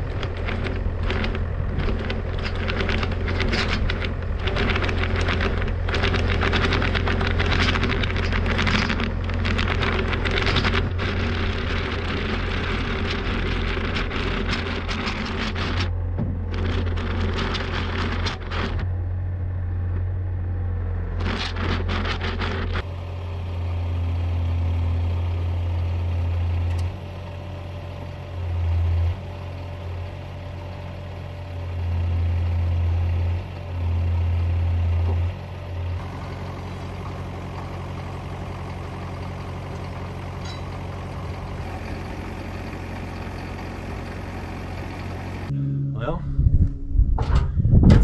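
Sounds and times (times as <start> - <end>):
excavator diesel engine running: 0.0 - 46.2.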